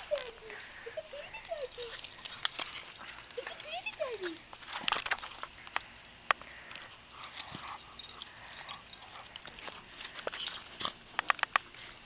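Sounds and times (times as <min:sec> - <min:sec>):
dogs playing and growling: 0:00.0 - 0:05.7, 0:06.5 - 0:12.0.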